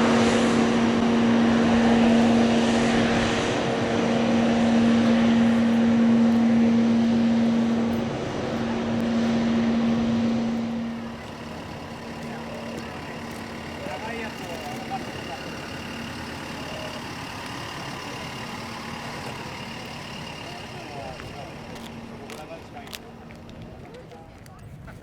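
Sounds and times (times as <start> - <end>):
airliner engines humming: 0.0 - 25.0.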